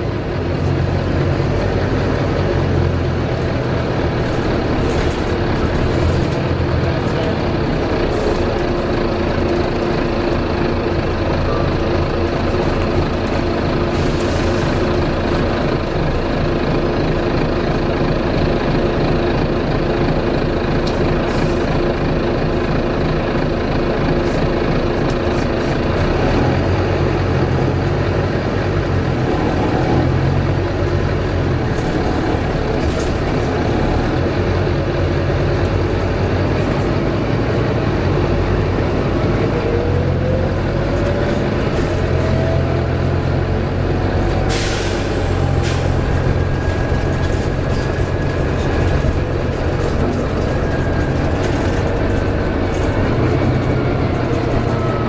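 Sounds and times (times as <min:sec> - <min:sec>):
bus diesel engine drone and whine: 0:00.0 - 0:55.0.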